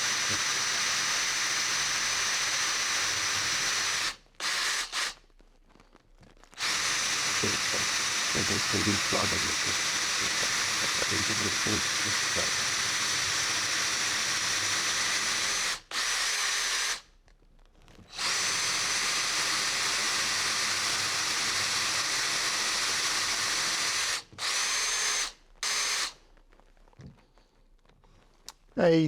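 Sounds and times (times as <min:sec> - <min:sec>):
electric drill boring through timber: 0:00.0 - 0:05.2, 0:06.6 - 0:17.0, 0:18.1 - 0:26.2.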